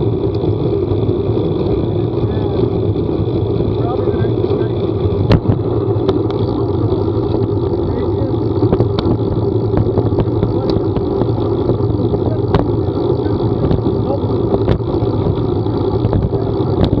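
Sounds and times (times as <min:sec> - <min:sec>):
vehicle running noise: 0:00.0 - 0:17.0.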